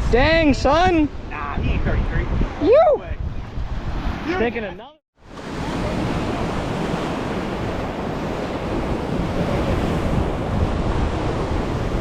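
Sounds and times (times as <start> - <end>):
wind noise on microphone: 0.0 - 4.7, 5.3 - 12.0.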